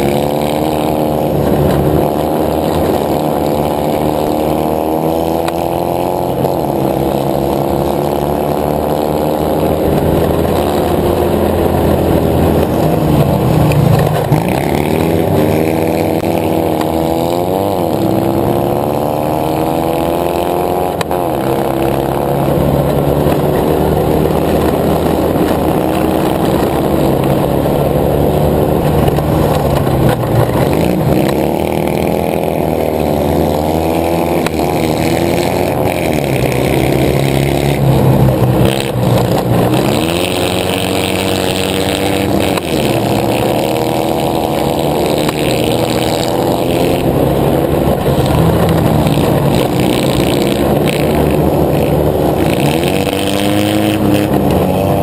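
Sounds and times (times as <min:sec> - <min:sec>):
buggy engine at high revs: 0:00.0 - 0:55.0.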